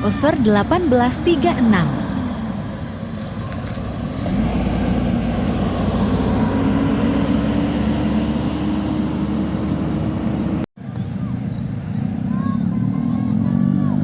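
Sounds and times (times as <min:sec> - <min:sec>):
diesel bus engine drone: 0:00.0 - 0:14.0.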